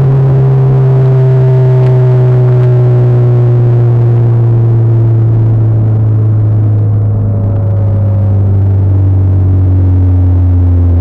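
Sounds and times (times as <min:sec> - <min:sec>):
car engine drone inside cabin: 0:00.0 - 0:11.0.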